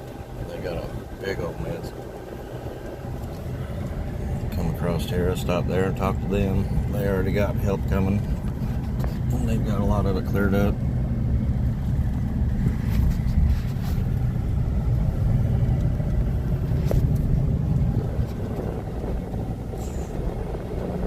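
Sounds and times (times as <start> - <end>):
car driving: 0.0 - 21.0.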